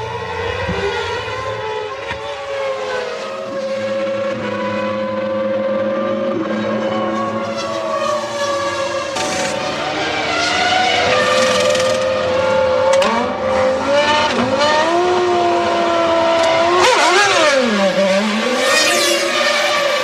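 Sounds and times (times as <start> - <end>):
racing car engine at high revs: 0.0 - 20.0.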